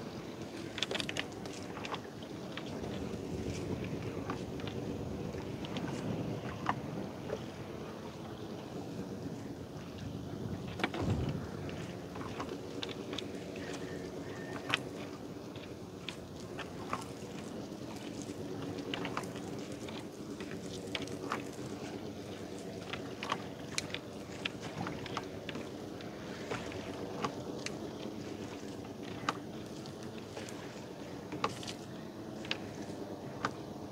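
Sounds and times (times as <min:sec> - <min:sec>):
boat motor running: 0:00.0 - 0:33.9.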